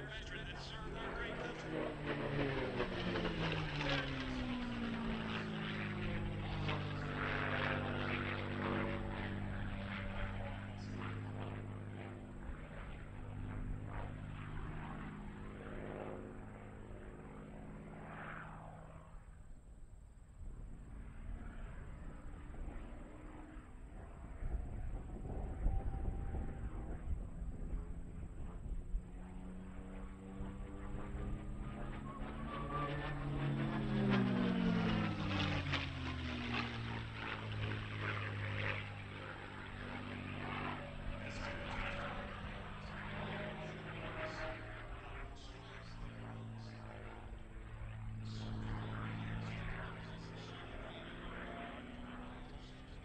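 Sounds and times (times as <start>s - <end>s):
propeller plane engine in flight: 0.0s - 53.0s.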